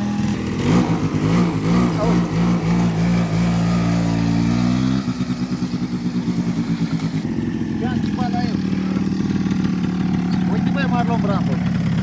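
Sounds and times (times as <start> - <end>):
small atv engine running: 0.0 - 12.0.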